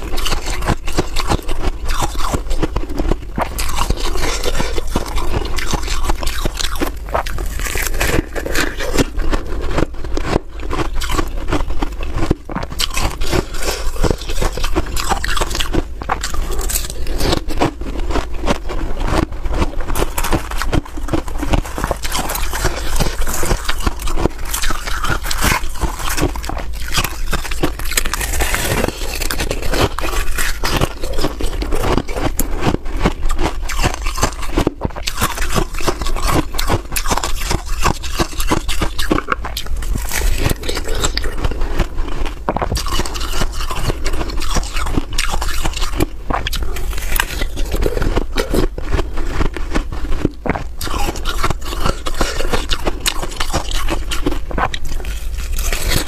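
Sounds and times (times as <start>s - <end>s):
ice crunching being chewed: 0.0s - 56.0s.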